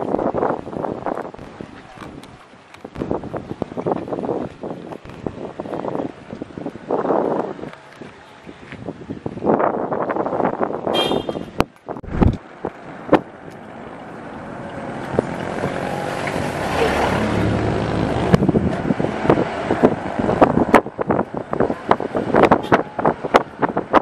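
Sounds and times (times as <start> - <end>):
motor vehicle rush and hum: 0.0 - 24.0
wind buffeting microphone: 0.0 - 24.0.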